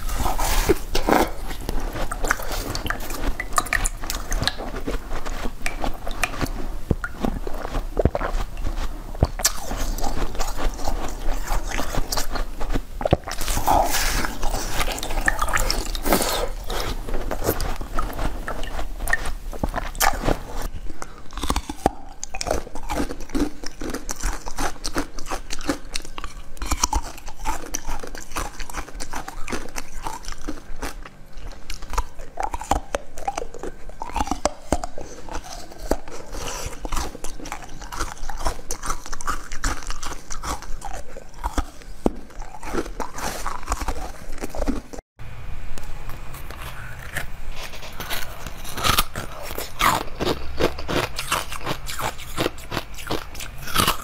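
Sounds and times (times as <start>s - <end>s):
wet crunchy chewing: 0.0s - 45.0s, 46.1s - 54.0s.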